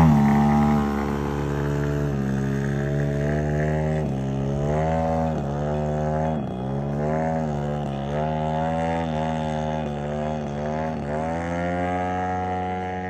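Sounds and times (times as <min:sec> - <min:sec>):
didgeridoo drone: 0:00.0 - 0:13.0.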